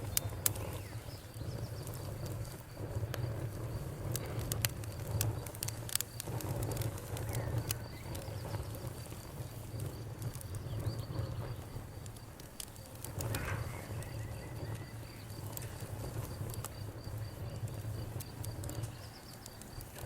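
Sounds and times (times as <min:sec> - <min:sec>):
crickets chirping: 0:00.0 - 0:20.0
wood fire crackling: 0:00.0 - 0:20.0.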